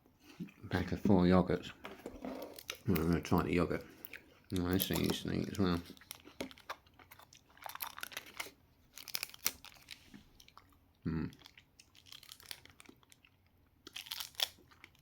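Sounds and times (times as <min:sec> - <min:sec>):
food chewing and crunching: 0:02.0 - 0:15.0.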